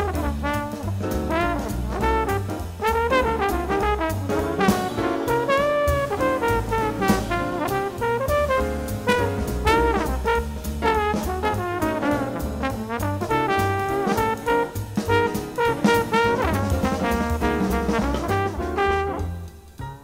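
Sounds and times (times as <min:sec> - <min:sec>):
jazz trombone solo: 0:00.0 - 0:19.8
piano bass and drums: 0:00.0 - 0:20.0.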